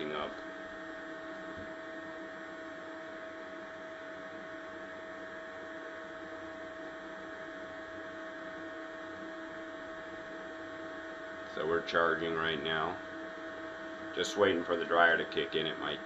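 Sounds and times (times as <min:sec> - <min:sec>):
electrical hum with high whine: 0:00.0 - 0:16.0.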